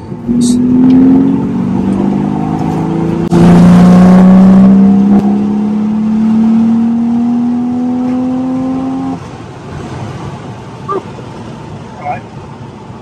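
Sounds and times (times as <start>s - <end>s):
car engine accelerating: 0.1s - 10.7s.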